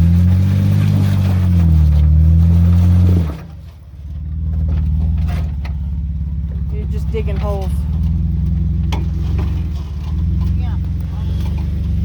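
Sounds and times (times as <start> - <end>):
off-road engine revving hard: 0.0 - 3.7, 4.3 - 12.0
tyres spinning in mud: 0.0 - 12.0.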